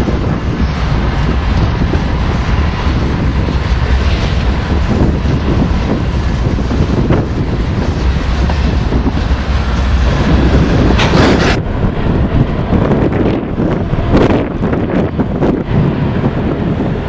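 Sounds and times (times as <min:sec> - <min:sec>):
passing train: 0:00.0 - 0:17.0
wind buffeting microphone: 0:00.0 - 0:17.0.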